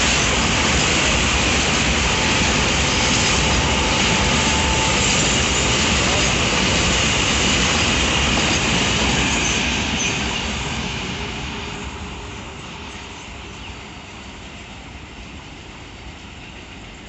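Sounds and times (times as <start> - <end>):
freight train wheels rattling: 0.0 - 17.0.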